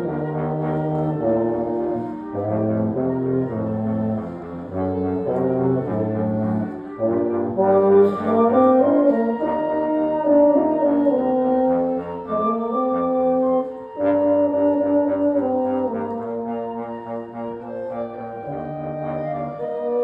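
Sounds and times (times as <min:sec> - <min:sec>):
wind ensemble playing held notes: 0:00.0 - 0:20.0.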